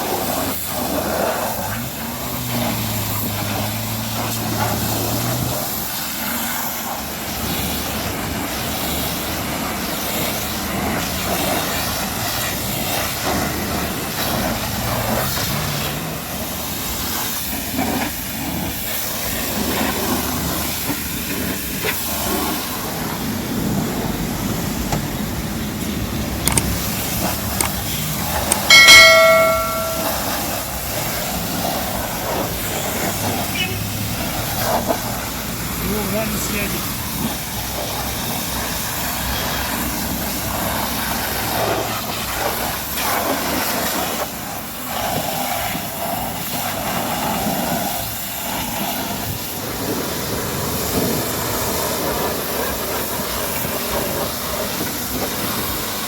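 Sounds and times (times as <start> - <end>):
pressure washer spraying car: 0.0 - 56.0.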